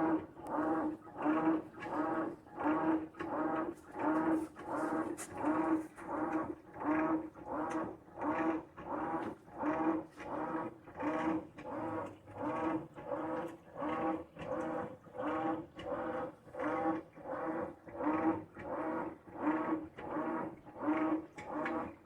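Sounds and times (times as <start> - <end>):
washing machine motor agitating: 0.0 - 22.0.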